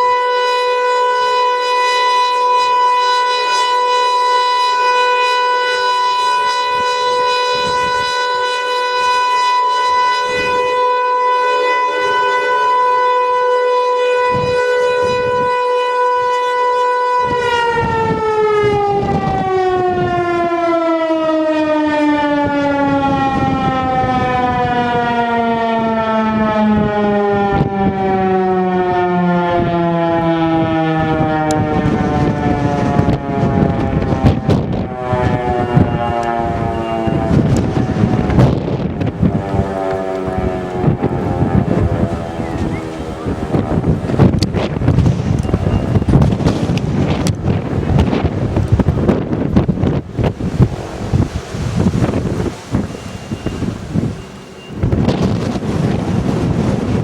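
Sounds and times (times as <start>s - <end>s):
tornado siren winding down: 0.0s - 57.0s.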